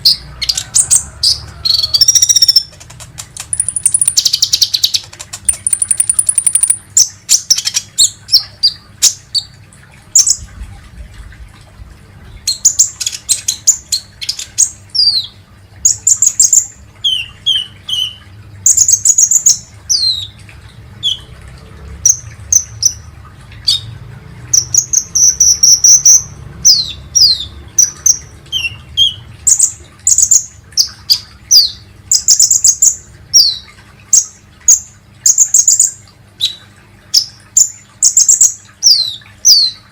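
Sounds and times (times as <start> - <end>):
bird chirps and trills: 0.0 - 10.5, 12.3 - 20.4, 22.0 - 39.9.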